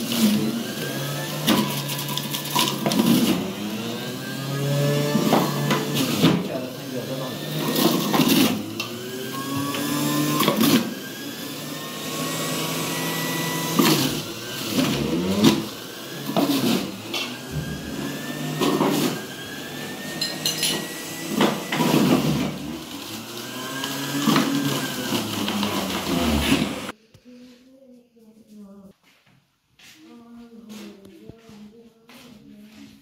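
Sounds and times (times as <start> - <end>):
electric juicer motor running: 0.0 - 26.9
carrots grinding in juicer: 0.0 - 27.0.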